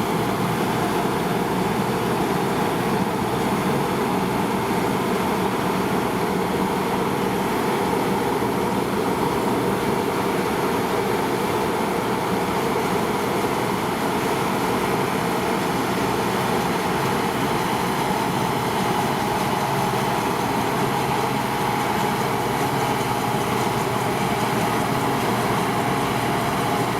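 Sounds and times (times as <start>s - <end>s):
combine harvester drone: 0.0s - 26.9s.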